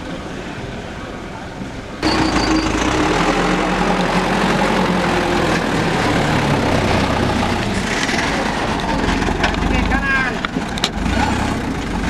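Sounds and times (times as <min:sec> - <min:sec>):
truck diesel engine running: 0:02.0 - 0:12.0.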